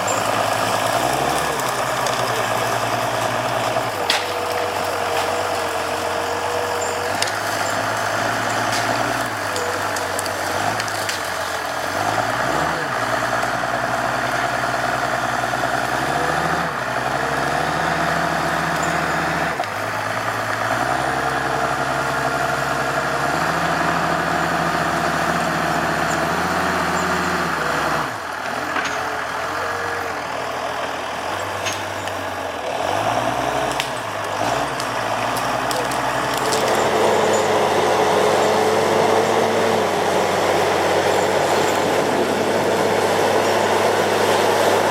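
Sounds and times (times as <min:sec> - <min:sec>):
heavy diesel engine revving: 0:00.0 - 0:44.9.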